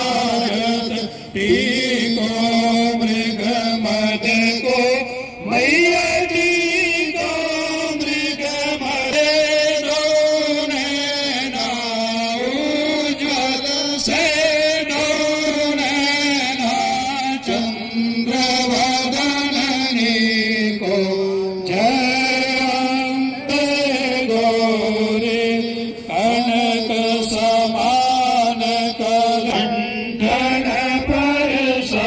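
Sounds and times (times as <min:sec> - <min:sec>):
man chanting over loudspeaker: 0:00.0 - 0:32.0.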